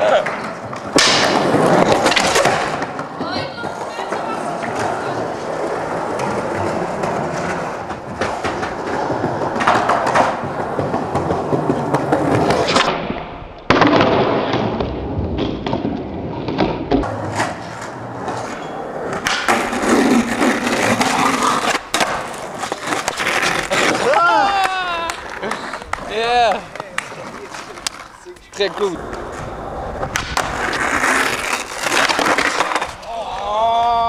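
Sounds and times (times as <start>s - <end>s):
skateboard trucks grinding on ledges: 0.0s - 33.4s
skateboard clacking: 0.0s - 33.7s
skateboard wheels rolling on concrete: 0.0s - 34.0s.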